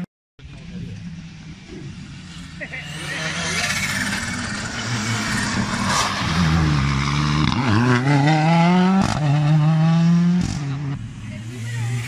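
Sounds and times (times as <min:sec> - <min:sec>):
rally car engine accelerating: 0:01.8 - 0:12.0.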